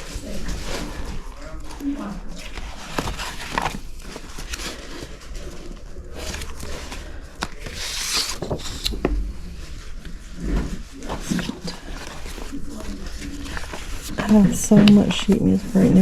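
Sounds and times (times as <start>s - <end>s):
paper rustling and scraping: 0.0s - 16.0s.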